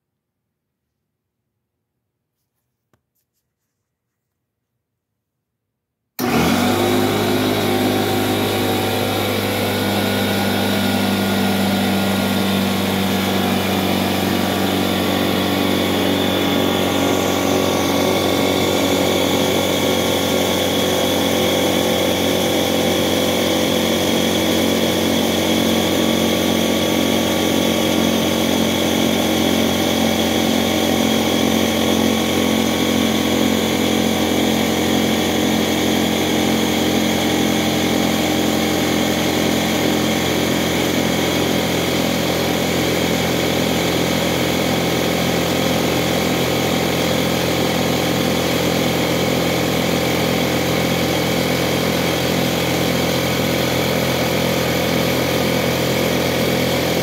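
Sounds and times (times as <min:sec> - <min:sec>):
air compressor running: 0:06.2 - 0:57.0.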